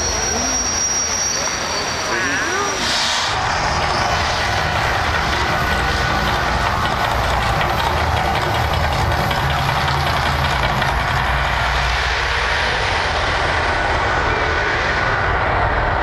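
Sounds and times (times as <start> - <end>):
volcano attraction erupting: 0.0 - 16.0.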